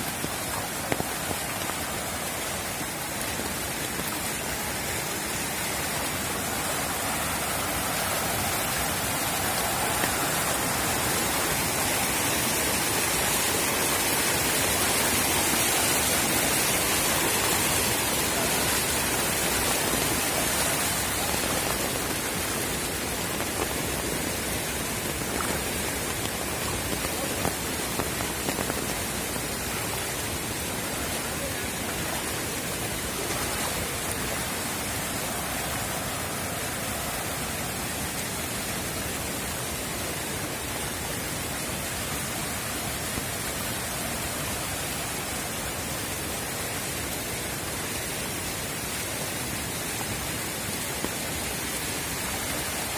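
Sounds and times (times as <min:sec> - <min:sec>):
rushing water: 0:00.0 - 0:52.9.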